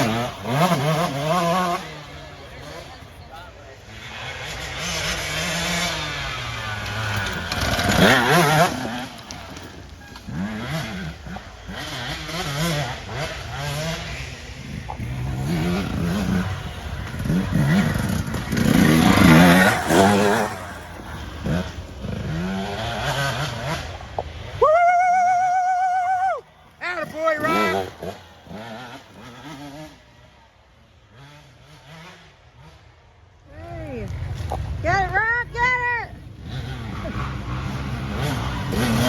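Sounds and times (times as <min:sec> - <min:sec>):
engine revving: 0:00.0 - 0:39.0.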